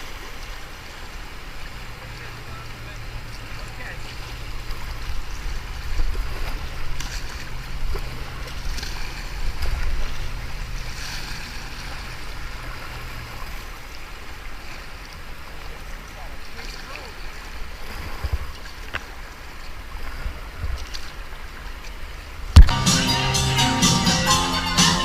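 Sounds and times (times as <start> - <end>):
whitewater rushing: 0.0 - 20.6
kayak paddle splashes: 0.0 - 22.8.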